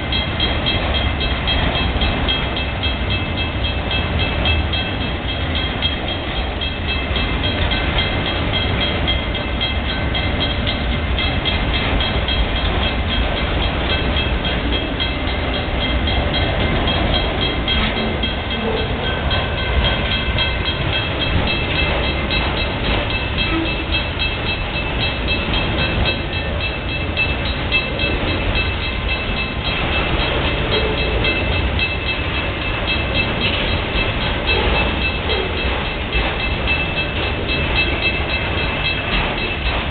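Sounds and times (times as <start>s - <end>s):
crossing warning bell ringing: 0.0s - 39.9s
train wheels rumbling on rail: 0.0s - 39.9s.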